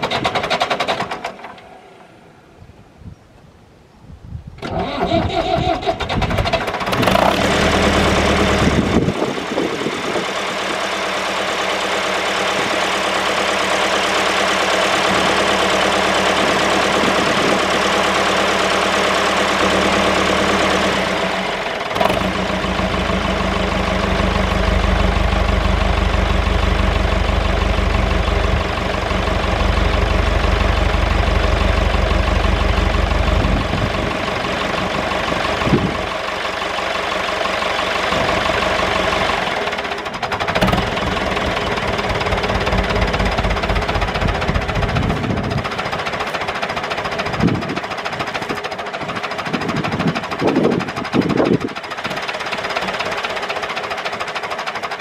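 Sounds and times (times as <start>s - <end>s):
tractor diesel engine idling: 4.6s - 55.0s.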